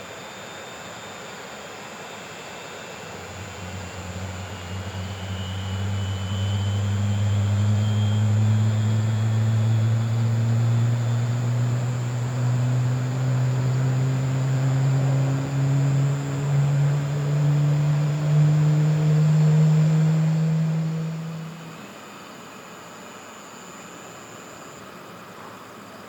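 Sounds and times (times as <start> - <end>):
jet engines humming: 0.0 - 26.0.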